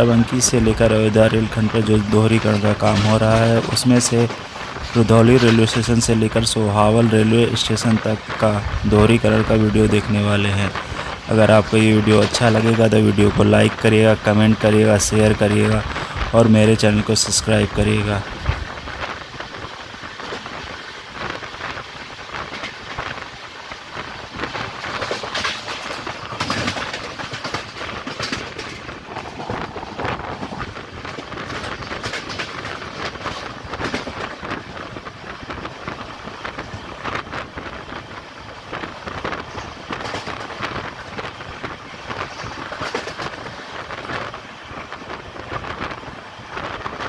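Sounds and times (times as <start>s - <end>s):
train rushing noise: 0.0s - 47.0s
wheels clicking on track: 0.0s - 47.0s.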